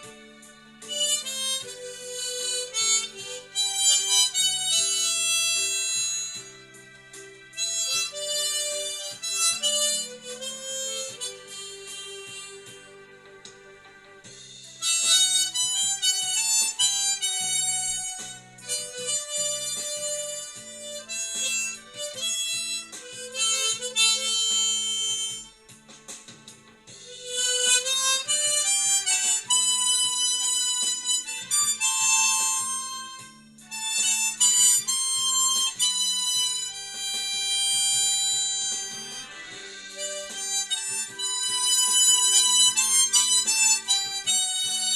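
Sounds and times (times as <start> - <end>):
harmonica playing slow melody: 0.0 - 44.9.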